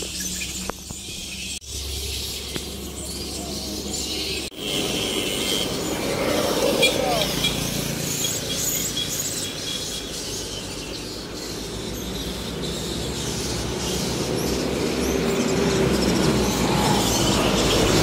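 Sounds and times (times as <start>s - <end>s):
flying foxes screeching: 0.0s - 18.0s.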